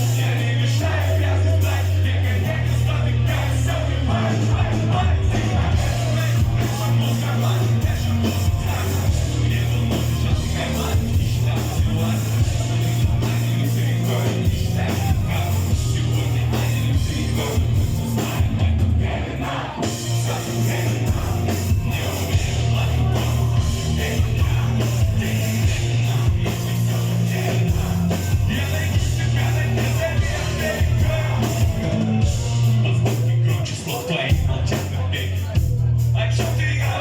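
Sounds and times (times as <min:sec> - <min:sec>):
heavy bass-driven beat: 0:00.0 - 0:37.0.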